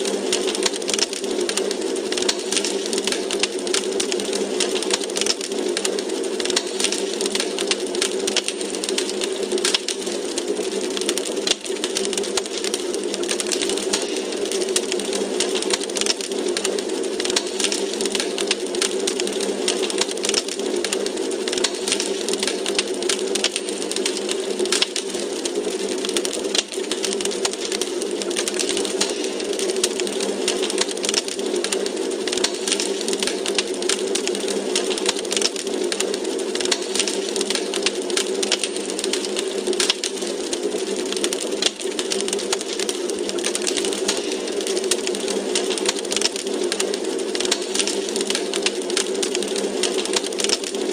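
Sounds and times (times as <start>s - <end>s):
log fire crackling: 0.0s - 50.9s
steady rushing hiss: 0.0s - 50.9s.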